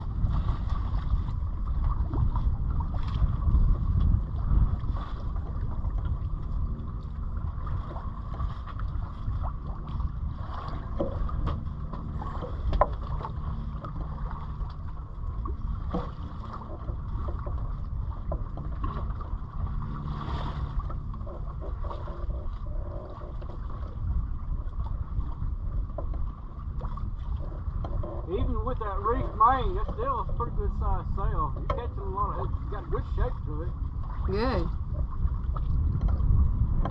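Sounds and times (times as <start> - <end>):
water noise: 0.0 - 36.9
wind rumbling on microphone: 0.0 - 36.9.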